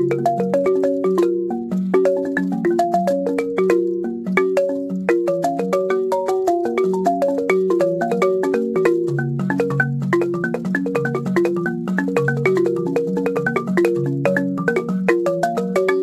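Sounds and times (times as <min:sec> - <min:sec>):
wooden xylophone played with mallets: 0:00.0 - 0:16.0.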